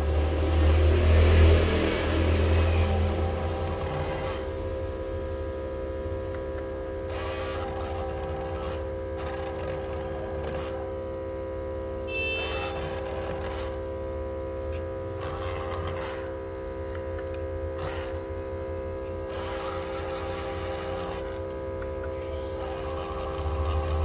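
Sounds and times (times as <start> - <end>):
small electric motor whirring: 0.0 - 24.0.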